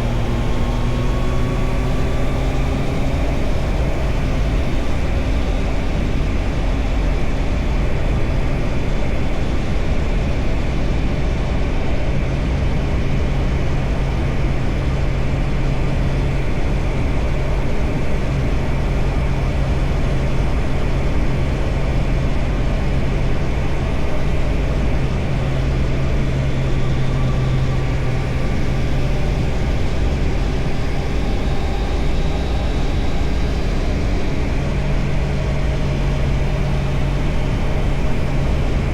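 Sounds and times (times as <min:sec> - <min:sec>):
motorcycle engine running: 0:00.0 - 0:08.7, 0:13.4 - 0:38.9
wind and road noise: 0:00.0 - 0:38.9.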